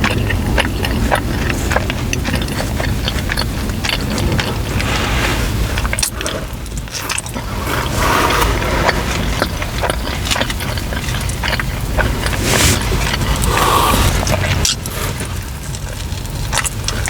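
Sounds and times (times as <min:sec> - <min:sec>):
wet chewing: 0:00.0 - 0:17.0
low rumble: 0:03.3 - 0:17.0.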